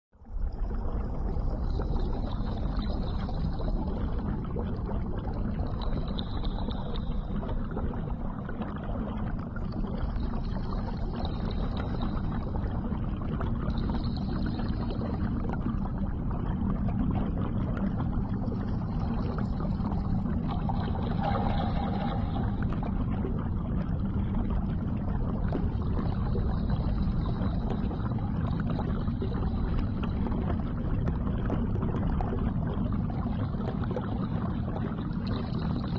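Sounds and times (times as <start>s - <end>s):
low underwater rumble: 0.2s - 35.9s.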